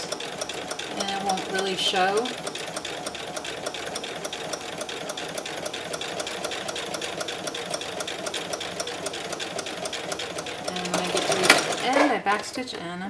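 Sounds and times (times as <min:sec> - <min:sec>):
sewing machine stitching: 0:00.0 - 0:12.6.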